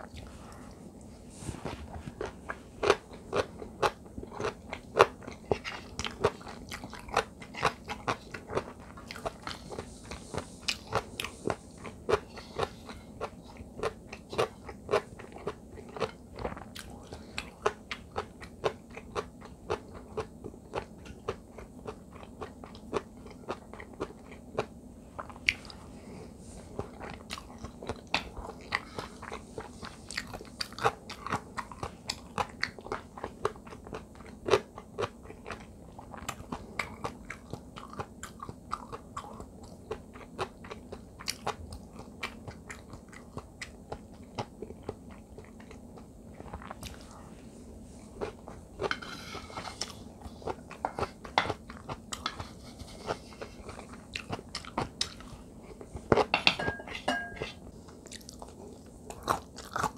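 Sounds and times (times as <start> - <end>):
crunchy chewing: 0.0 - 56.4, 57.8 - 59.9.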